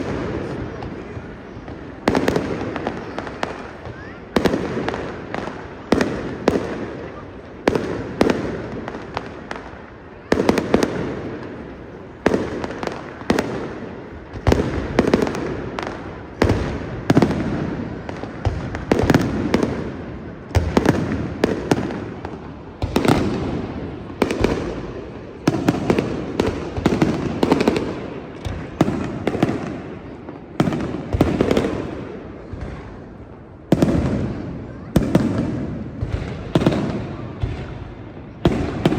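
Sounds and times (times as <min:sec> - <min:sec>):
fireworks bangs with rumbling echo: 0:00.0 - 0:38.9.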